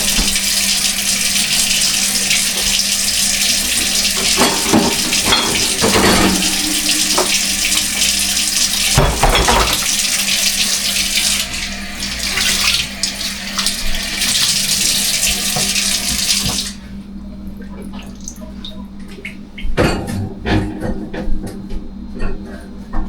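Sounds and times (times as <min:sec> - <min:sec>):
kitchen tap running: 0:00.0 - 0:16.9, 0:17.6 - 0:20.0.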